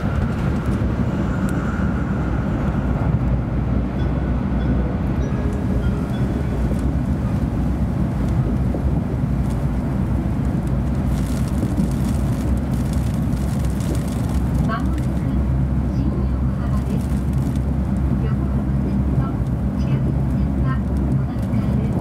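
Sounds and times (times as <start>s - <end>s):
train rumbling inside passenger car: 0.0s - 22.0s.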